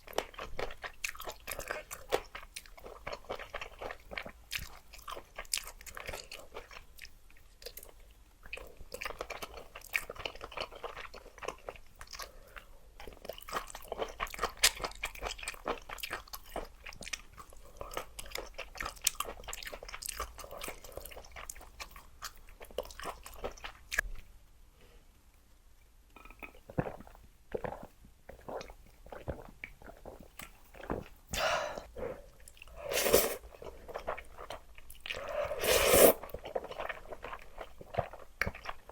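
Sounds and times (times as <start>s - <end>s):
chewing noodles wet crunching: 0.0s - 12.4s, 13.0s - 24.0s, 26.5s - 31.1s, 32.4s - 38.9s.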